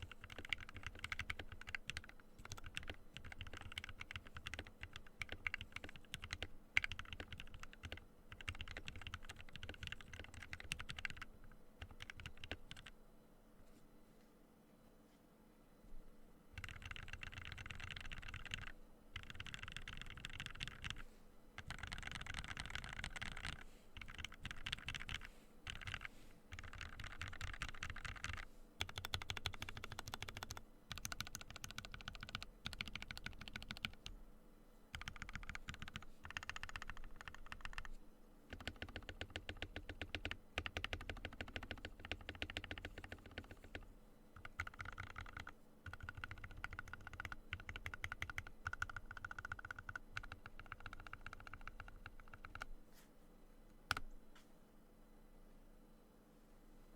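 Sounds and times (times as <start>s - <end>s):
fast mechanical keyboard typing: 0.0s - 12.9s, 16.6s - 21.0s, 21.6s - 34.1s, 34.9s - 37.9s, 38.5s - 43.8s, 44.4s - 52.7s.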